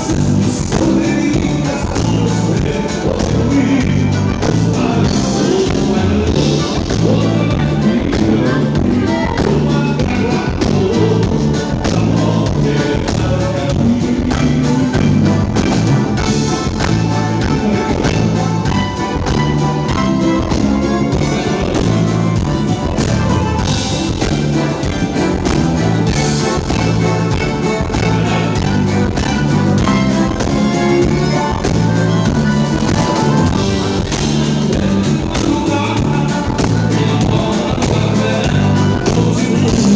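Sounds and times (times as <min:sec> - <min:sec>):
live band music: 0:00.0 - 0:39.9
person singing: 0:00.0 - 0:39.9.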